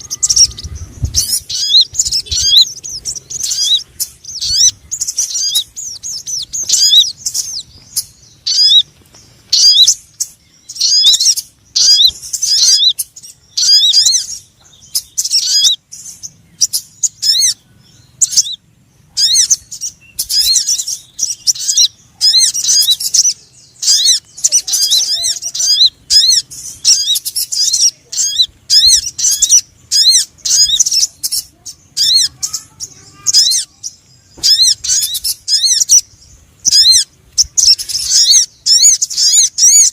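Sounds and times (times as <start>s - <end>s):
high-pitched bird chirping: 0.0s - 39.9s.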